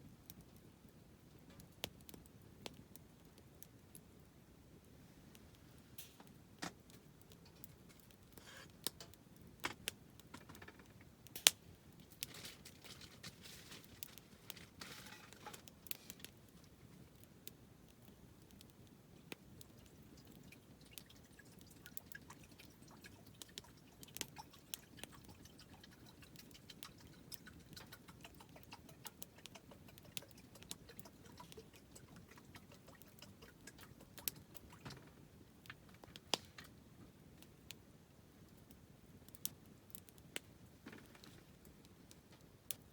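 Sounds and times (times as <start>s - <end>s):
campfire crackling: 0.2s - 42.9s.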